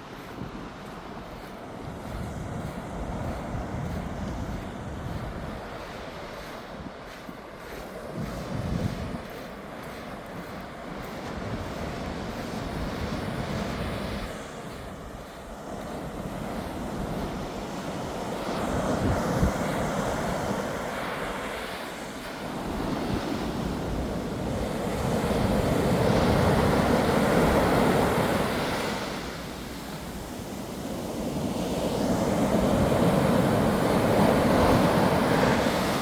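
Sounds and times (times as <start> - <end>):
ocean waves washing onto beach: 0.0 - 36.0
wind rumbling on microphone: 0.0 - 36.0.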